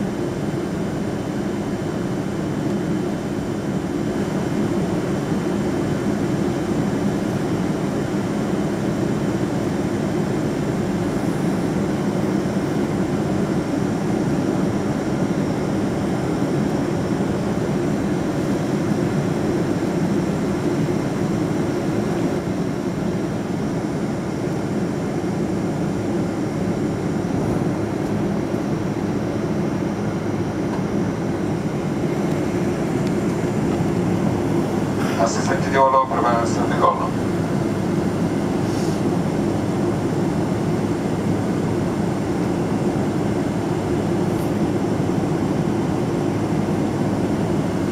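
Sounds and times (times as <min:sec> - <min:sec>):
airplane cabin hum and rumble: 0:00.0 - 0:47.9.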